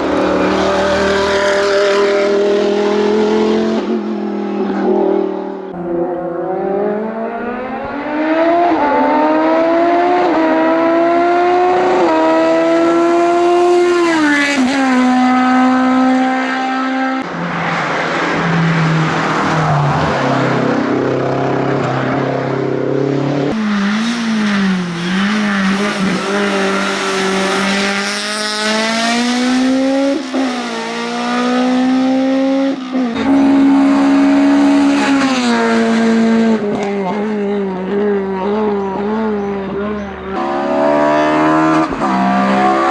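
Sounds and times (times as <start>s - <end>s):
racing car engines accelerating: 0.0s - 42.9s.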